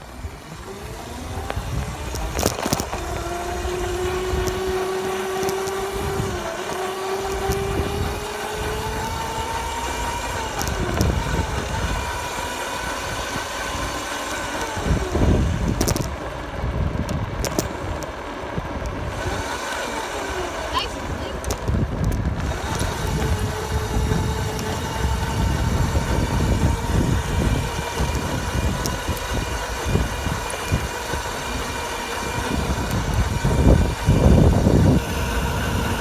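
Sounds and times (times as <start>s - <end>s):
dirt bike engine: 0.0s - 36.0s.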